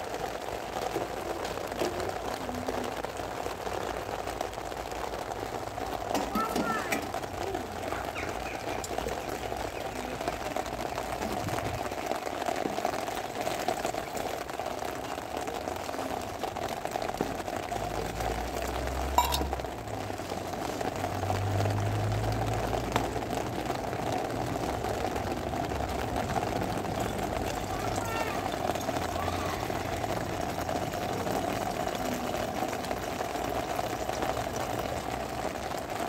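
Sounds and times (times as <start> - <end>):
water splashing: 5.9 - 35.9.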